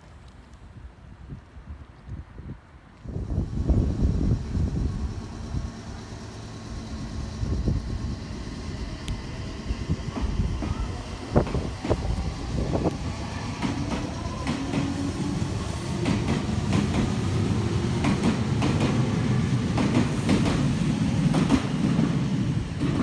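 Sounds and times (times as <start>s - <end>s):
train rumble: 3.0s - 23.0s
train wheels clicking over joints: 3.4s - 23.0s.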